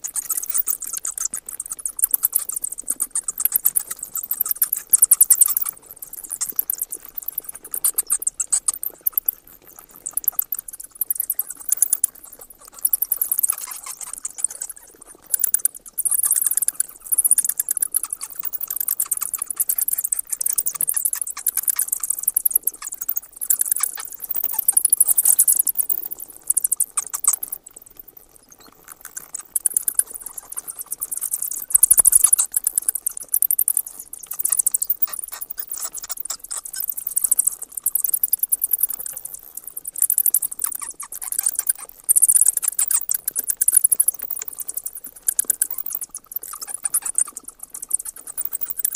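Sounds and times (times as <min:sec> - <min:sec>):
bats chittering and squeaking: 0:00.0 - 0:48.9.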